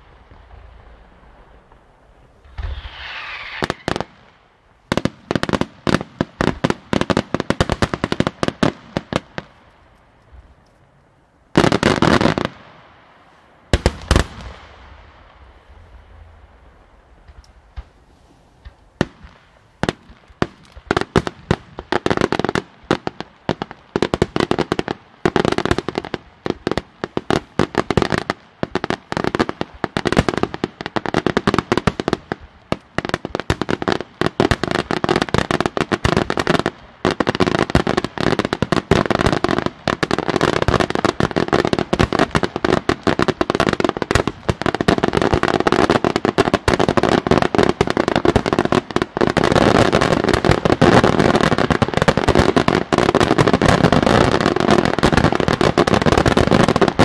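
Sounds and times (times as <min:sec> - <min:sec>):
fireworks bursting: 0:00.0 - 0:10.7, 0:11.5 - 0:57.0.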